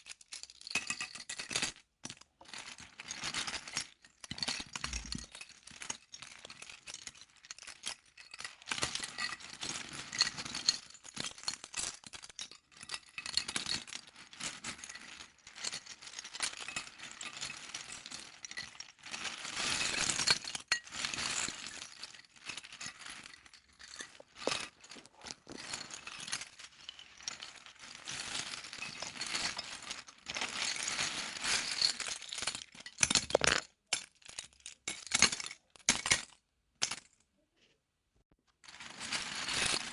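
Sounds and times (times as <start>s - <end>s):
plastic bricks rattling and clicking: 0.0s - 37.1s.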